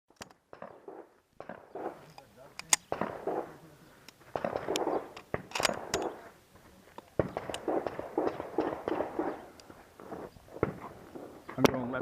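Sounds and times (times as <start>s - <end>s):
pistol shots: 0.5s - 3.6s, 4.3s - 6.3s, 7.2s - 11.9s.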